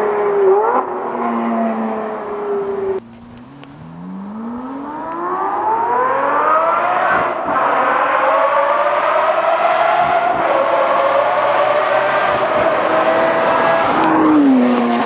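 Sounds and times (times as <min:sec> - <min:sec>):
car accelerating hard: 0:00.0 - 0:15.0
sports car engine revving: 0:00.0 - 0:15.0.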